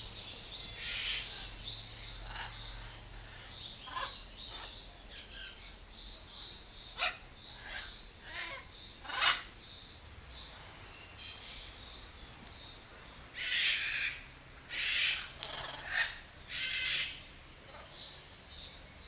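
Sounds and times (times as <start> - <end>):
birds giving harsh calls: 0.0 - 18.9
small birds twittering: 0.0 - 19.0.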